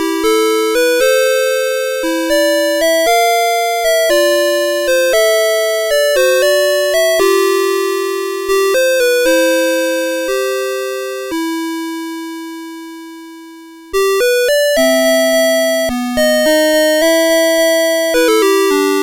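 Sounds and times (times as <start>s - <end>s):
electronic alarm clock melody: 0.0s - 11.8s, 14.0s - 19.0s.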